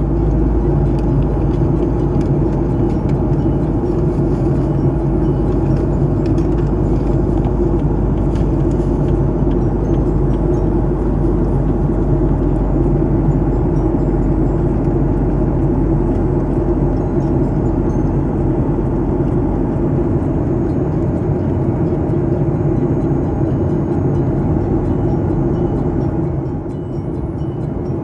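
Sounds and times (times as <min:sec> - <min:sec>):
airliner cabin engine drone: 0:00.0 - 0:28.0.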